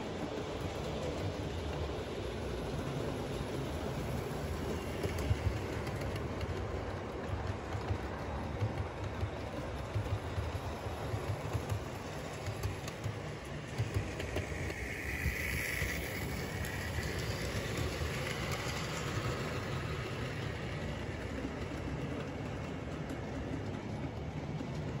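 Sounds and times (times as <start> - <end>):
model train wheels and motors rumbling: 0.0 - 25.0.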